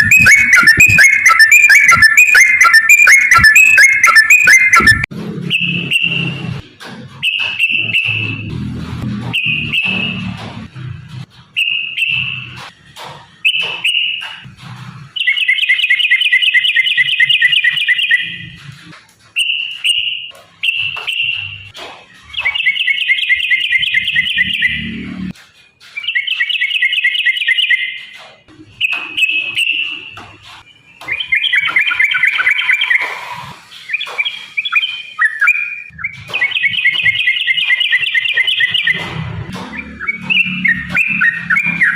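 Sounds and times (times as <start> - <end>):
bird chirping and trilling: 0.0 - 8.6, 9.3 - 10.4, 11.4 - 12.7, 13.3 - 14.5, 15.1 - 18.6, 19.3 - 41.9.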